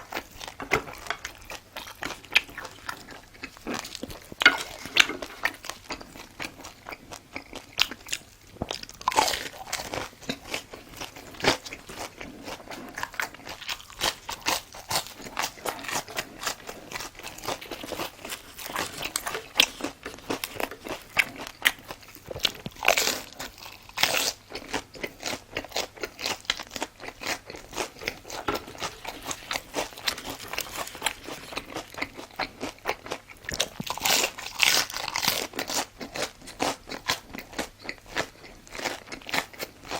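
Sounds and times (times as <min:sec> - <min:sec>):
person crunching food: 0:00.0 - 0:39.9.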